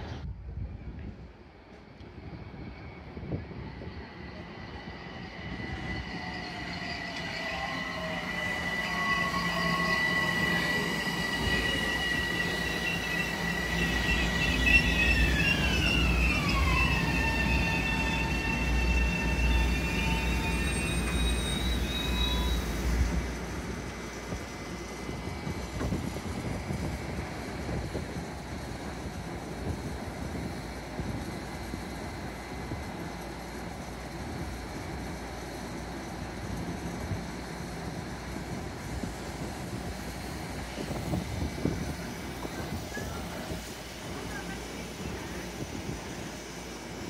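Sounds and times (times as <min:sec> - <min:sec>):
train high-pitched whine: 0:00.0 - 0:47.0
train wheels rumbling on rails: 0:00.0 - 0:47.0.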